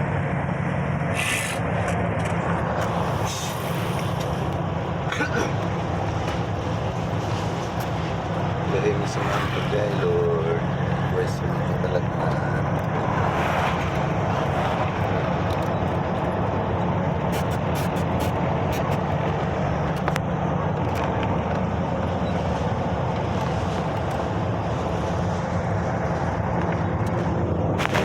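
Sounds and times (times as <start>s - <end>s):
truck engine droning: 0.0s - 28.0s
tyre and road noise: 0.0s - 28.0s.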